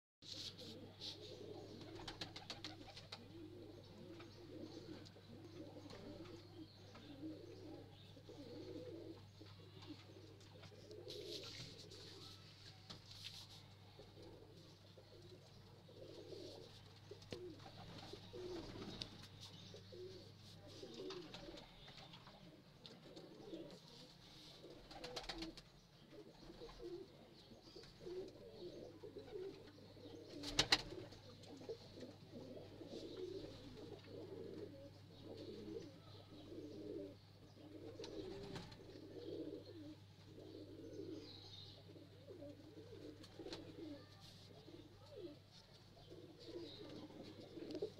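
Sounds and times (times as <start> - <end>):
pigeons cooing: 0.3 - 12.4, 13.6 - 47.9.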